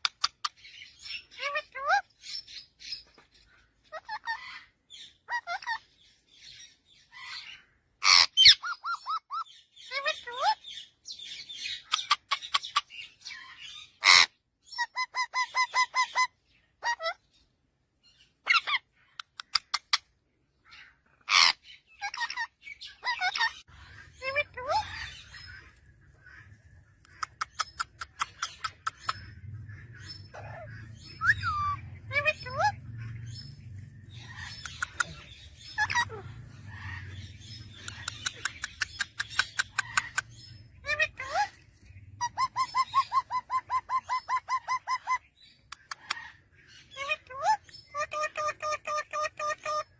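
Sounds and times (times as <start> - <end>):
parrots squawking and chirping: 0.0 - 49.9.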